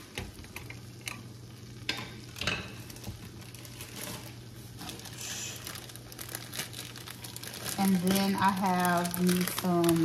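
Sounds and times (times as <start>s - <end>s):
garlic sizzling in a frying pan: 0.0s - 10.0s.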